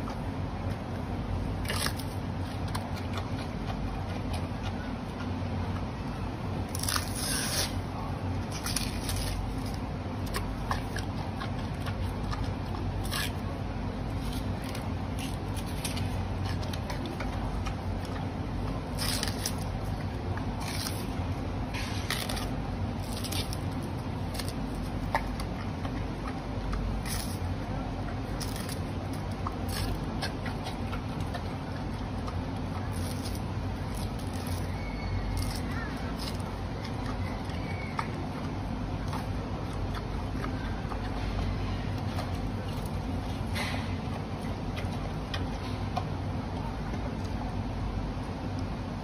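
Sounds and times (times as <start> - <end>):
panda crunching carrots: 0.0 - 48.9
low background hum: 0.0 - 49.0.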